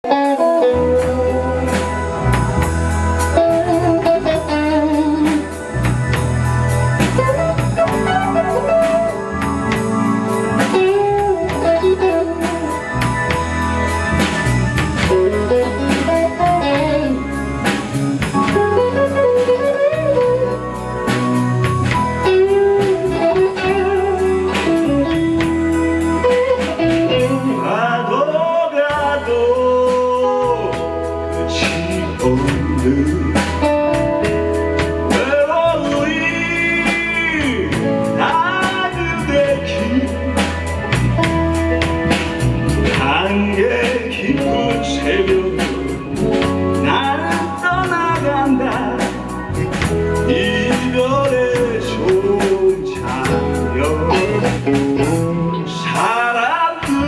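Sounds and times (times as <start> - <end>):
drum kit beat: 0.0 - 27.8, 28.9 - 57.0
bass guitar: 0.0 - 57.0
guitar lead melody: 0.0 - 57.0.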